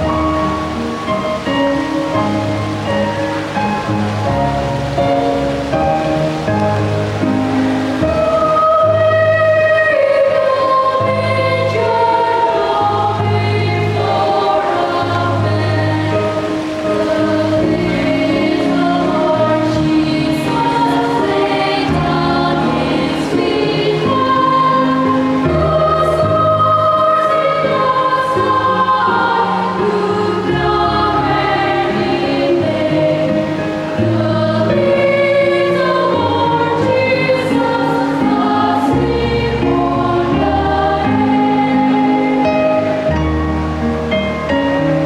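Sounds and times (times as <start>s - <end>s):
children's choir singing a carol: 0.0s - 44.7s
instrumental accompaniment: 0.0s - 45.0s.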